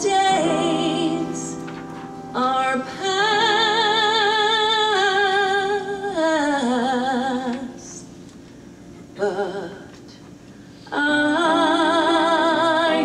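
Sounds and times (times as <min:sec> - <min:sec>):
woman singing: 0:00.0 - 0:01.6, 0:02.3 - 0:08.1, 0:09.2 - 0:10.2, 0:10.9 - 0:13.0.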